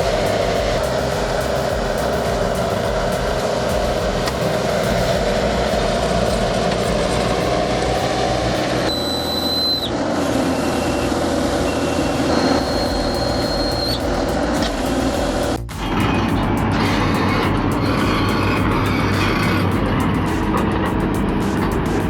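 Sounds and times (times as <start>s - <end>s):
heavy tracked machinery running: 0.0s - 22.0s
high-pitched squeals: 0.0s - 22.0s.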